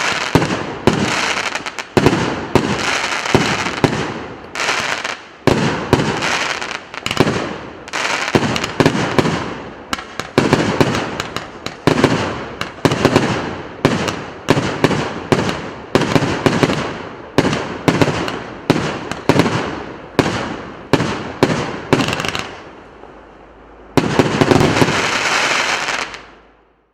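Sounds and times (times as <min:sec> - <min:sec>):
fireworks bangs: 0:00.0 - 0:22.7, 0:23.9 - 0:26.4.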